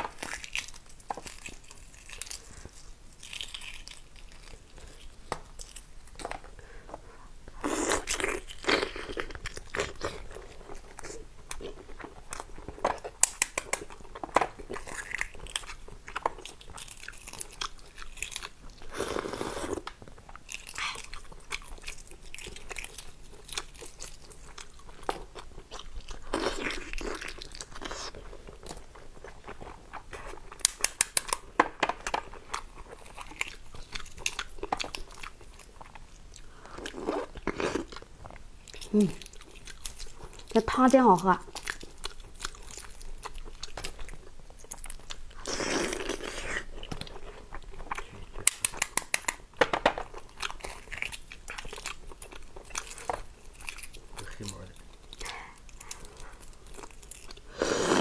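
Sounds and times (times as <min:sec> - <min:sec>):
chewing and biting: 0:00.0 - 0:06.4, 0:07.6 - 0:40.6, 0:41.4 - 0:49.4, 0:50.0 - 0:58.0.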